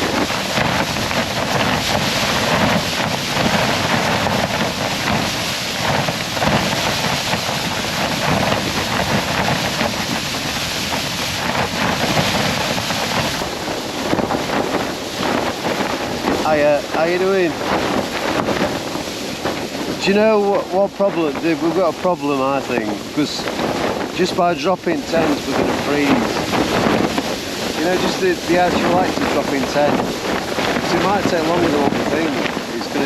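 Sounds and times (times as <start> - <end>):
blizzard wind roaring: 0.0 - 33.0.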